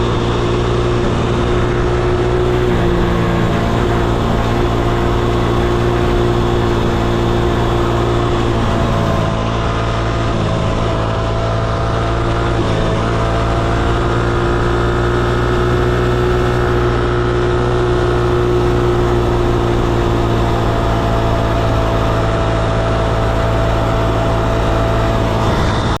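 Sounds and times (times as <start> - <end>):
small gas engine running: 0.0 - 26.0.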